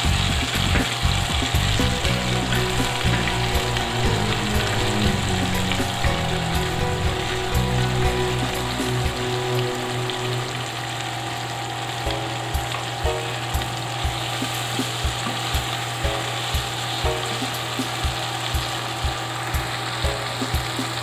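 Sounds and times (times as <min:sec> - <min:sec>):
background music with beat: 0:00.0 - 0:10.8, 0:12.1 - 0:21.0
food sizzling in oil: 0:00.0 - 0:21.0.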